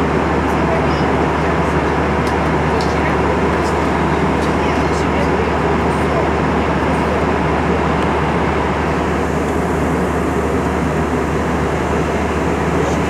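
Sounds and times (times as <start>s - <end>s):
airliner engines and airflow rushing: 0.0s - 13.0s.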